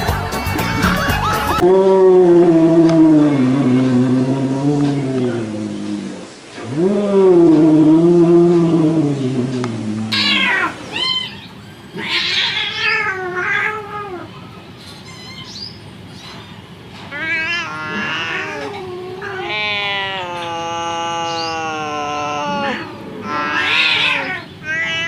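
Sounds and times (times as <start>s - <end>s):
angry cats yowling: 0.6s - 14.5s, 17.1s - 25.0s.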